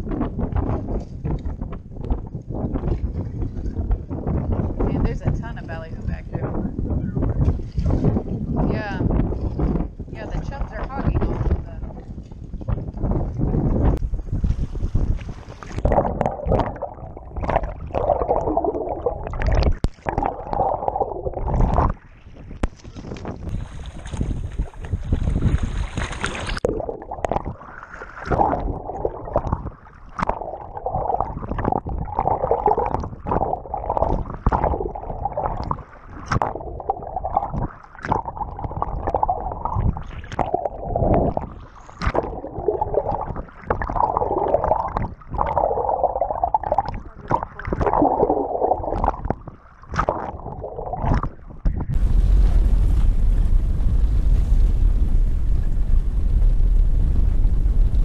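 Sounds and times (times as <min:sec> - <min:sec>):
water gurgling and sloshing: 0:00.0 - 0:58.0
wind on microphone: 0:00.0 - 0:58.0.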